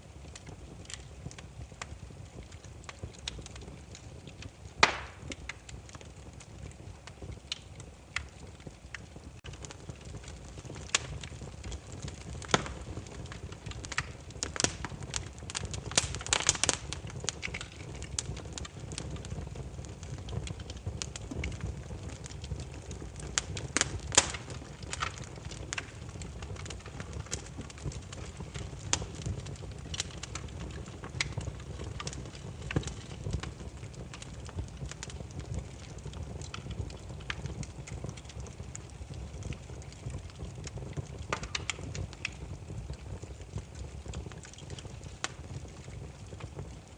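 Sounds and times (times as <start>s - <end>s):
firewood crackling and popping: 0.0s - 46.9s
low rumble of flames: 0.0s - 46.9s.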